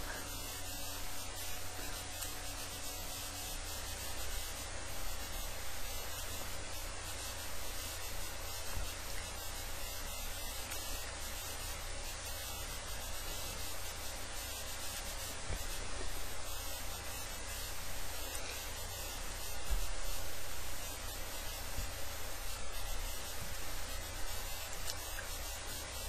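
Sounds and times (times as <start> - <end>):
microphone hiss: 0.0 - 26.0.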